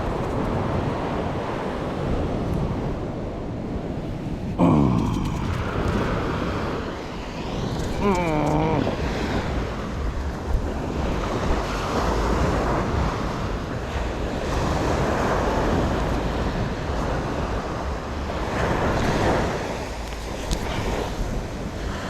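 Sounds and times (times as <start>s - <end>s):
ocean surf washing ashore: 0.0s - 22.0s
wind rumbling on microphone: 0.0s - 22.0s.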